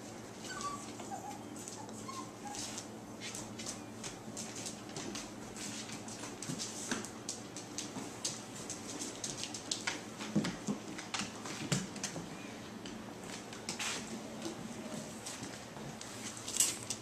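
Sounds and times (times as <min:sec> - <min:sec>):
puppy claws clicking on floor: 0:00.5 - 0:13.8, 0:15.4 - 0:17.0.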